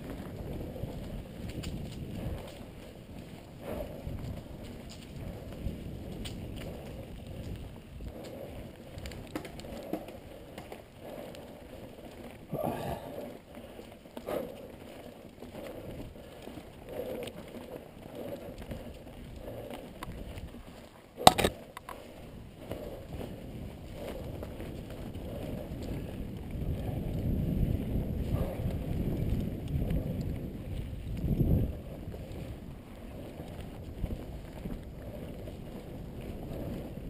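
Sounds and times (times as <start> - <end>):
bike tyre noise: 0.0 - 37.0
wind on microphone: 0.0 - 37.0.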